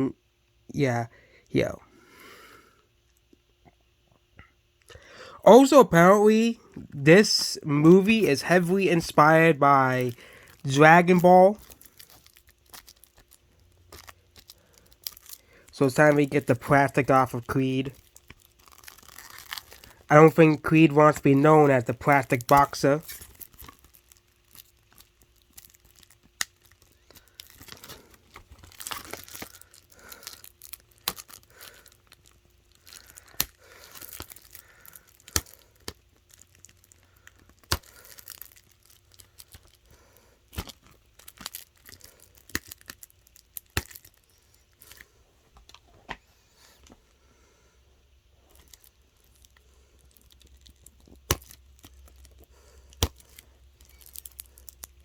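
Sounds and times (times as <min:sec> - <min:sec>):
shrink wrap crinkling: 0:04.9 - 0:47.2, 0:48.2 - 0:55.0.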